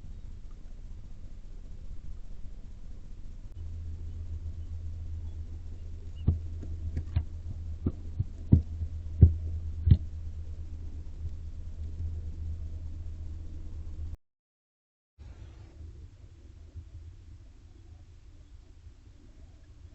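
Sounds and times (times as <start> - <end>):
steady low hum: 0.0 - 14.2, 15.2 - 19.9.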